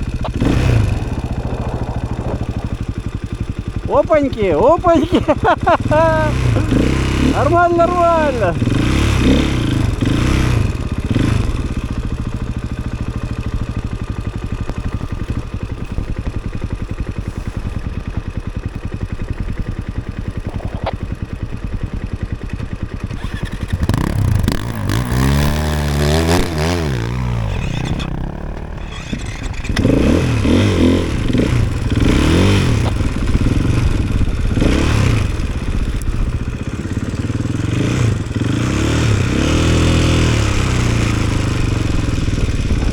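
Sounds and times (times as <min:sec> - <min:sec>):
snowbike engine revving: 0:00.0 - 0:42.9.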